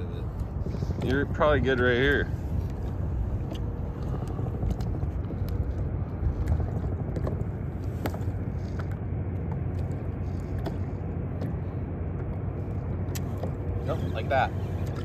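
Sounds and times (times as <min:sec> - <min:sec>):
low rumble: 0:00.0 - 0:15.0
small waves lapping a hull: 0:00.0 - 0:15.0.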